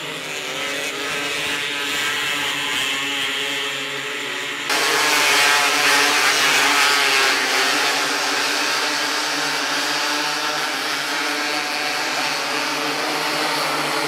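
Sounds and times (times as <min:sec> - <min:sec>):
small race car engines revving: 0:00.0 - 0:14.0.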